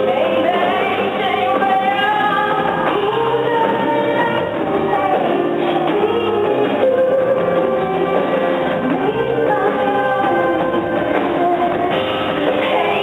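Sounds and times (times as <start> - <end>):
live rock band playing: 0.0 - 13.0
woman singing: 0.0 - 13.0.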